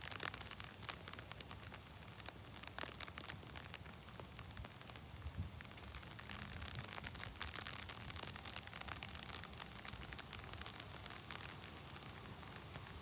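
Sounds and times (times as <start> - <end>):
raindrops ticking on microphone: 0.0 - 13.0.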